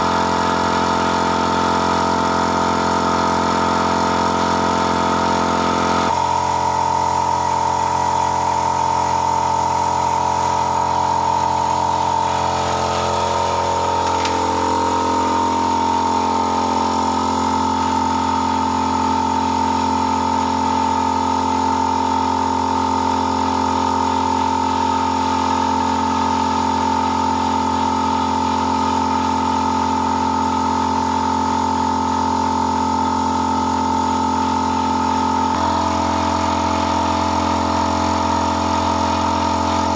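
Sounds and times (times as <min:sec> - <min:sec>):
motor humming: 0:04.3 - 0:39.9.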